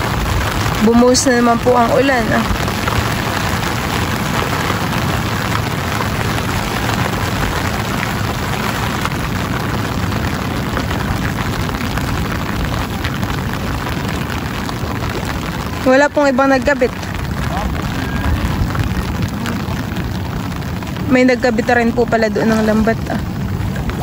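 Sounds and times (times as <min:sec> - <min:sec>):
heavy rain pouring onto water: 0:00.0 - 0:24.0.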